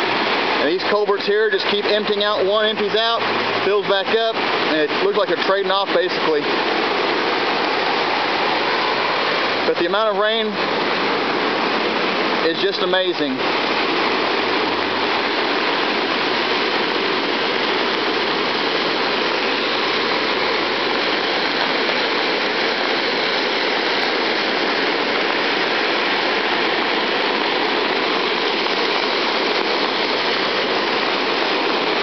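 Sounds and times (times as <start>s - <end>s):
floodwater rushing through a ditch: 0.0s - 32.0s.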